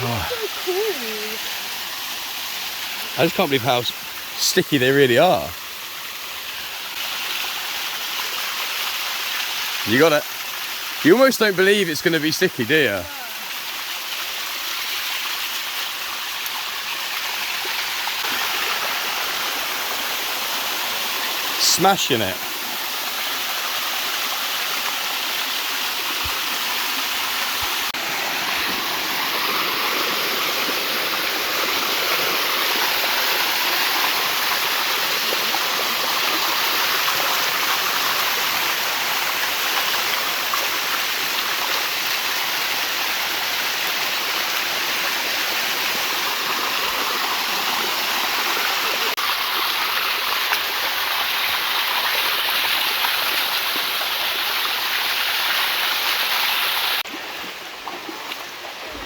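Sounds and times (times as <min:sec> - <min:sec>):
waterfall rushing: 0:00.0 - 0:05.6, 0:10.9 - 0:13.8, 0:17.2 - 0:57.2.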